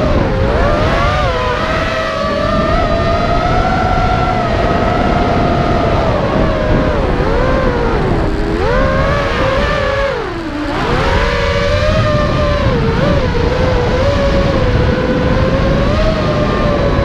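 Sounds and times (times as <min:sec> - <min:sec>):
quadcopter motors buzzing whine: 0:00.0 - 0:17.0
rushing air: 0:00.0 - 0:17.0.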